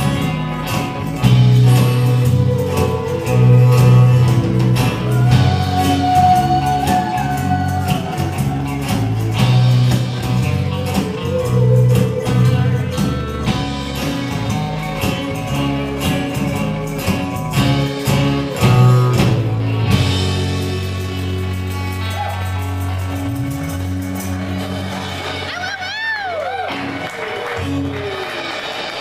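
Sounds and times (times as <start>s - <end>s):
steady drum beat: 0.0s - 26.0s
live rock band playing: 0.0s - 29.0s.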